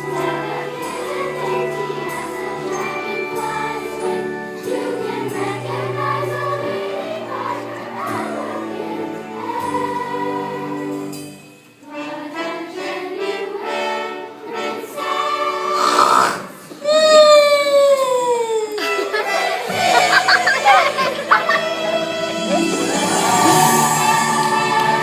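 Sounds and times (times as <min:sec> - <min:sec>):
voices singing slow tune: 0:00.0 - 0:16.6, 0:18.8 - 0:25.0
musical accompaniment: 0:00.0 - 0:16.8, 0:18.7 - 0:25.0.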